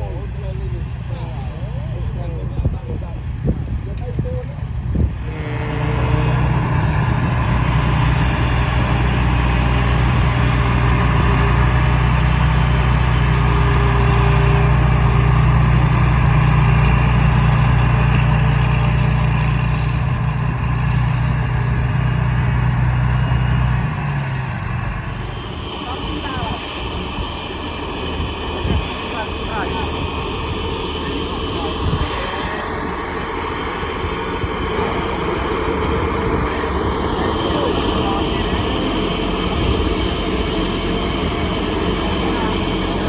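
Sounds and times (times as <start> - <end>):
combine harvester engine running: 0.0 - 43.0.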